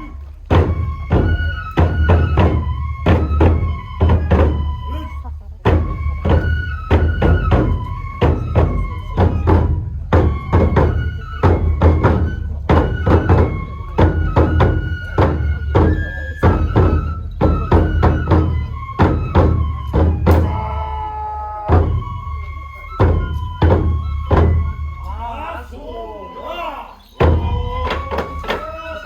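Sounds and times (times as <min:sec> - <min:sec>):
drum strokes: 0:00.0 - 0:20.9, 0:21.5 - 0:25.2, 0:27.1 - 0:29.0
bamboo flute melody: 0:00.0 - 0:29.0.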